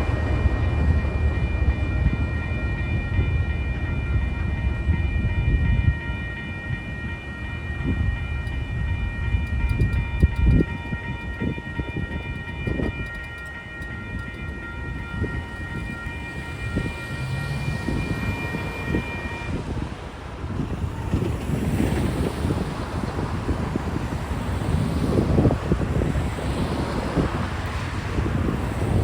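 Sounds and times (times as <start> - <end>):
crossing warning bell ringing: 0.0 - 29.0
passenger train rumbling: 0.0 - 29.0.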